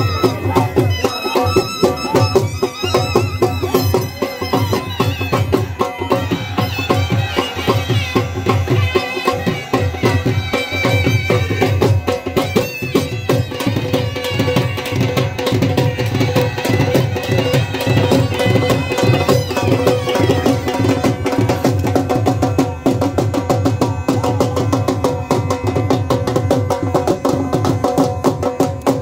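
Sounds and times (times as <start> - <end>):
dhol drum beating fast rhythm: 0.0 - 29.0.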